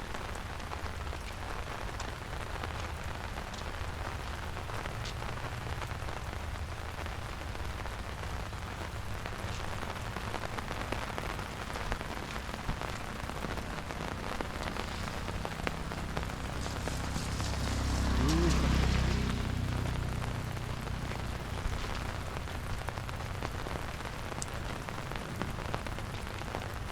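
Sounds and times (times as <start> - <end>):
rain falling: 0.0 - 26.9
raindrops ticking on surfaces: 0.0 - 26.9.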